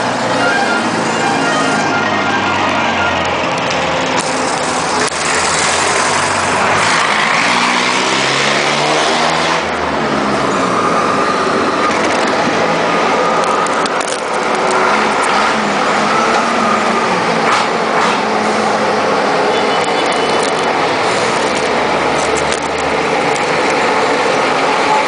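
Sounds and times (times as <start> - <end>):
road noise: 0.0 - 25.0
truck engines passing by: 0.0 - 25.0.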